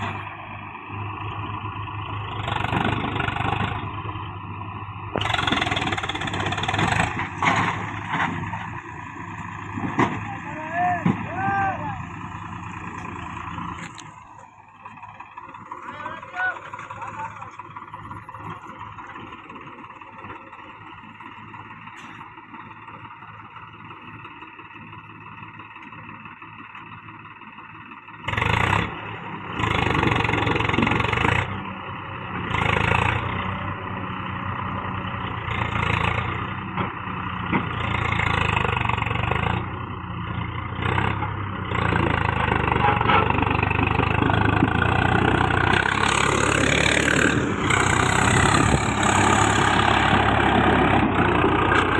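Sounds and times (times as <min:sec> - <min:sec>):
tractor diesel engine revving: 0:00.0 - 0:51.9.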